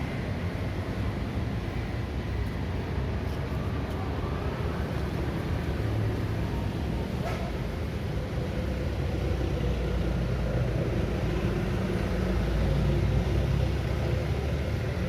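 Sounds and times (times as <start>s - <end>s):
steady traffic rumble: 0.0s - 15.0s
vehicle engines running: 0.0s - 15.0s.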